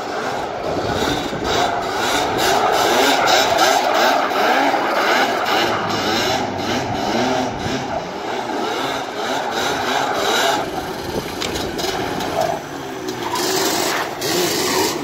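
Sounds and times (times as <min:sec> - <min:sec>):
two-stroke quad engines revving: 0:00.0 - 0:15.0.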